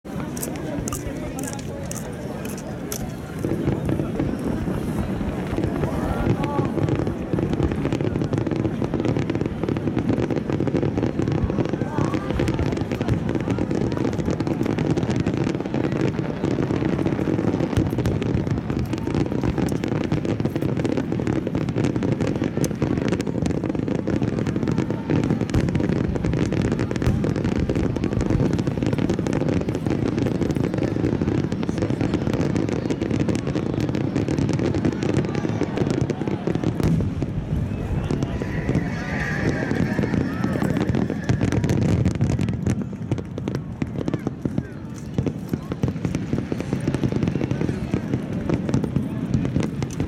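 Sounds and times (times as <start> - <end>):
fireworks booming and crackling: 0.0 - 50.0.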